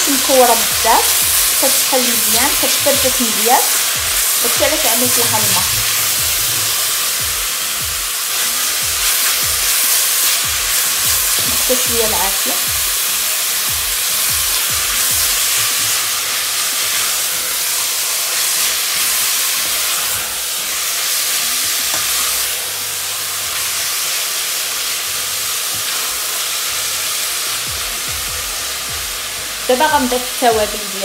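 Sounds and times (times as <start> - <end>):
meat sizzling in a pot: 0.0 - 31.0.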